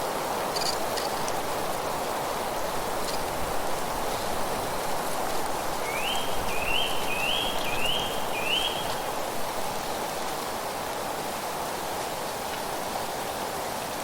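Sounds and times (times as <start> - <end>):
rustling leaves: 0.0 - 14.0
wind: 0.0 - 14.0.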